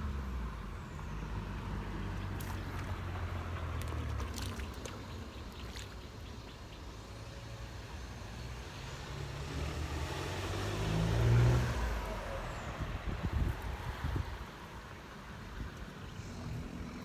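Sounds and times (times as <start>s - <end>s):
engine passing by: 0.0s - 17.0s.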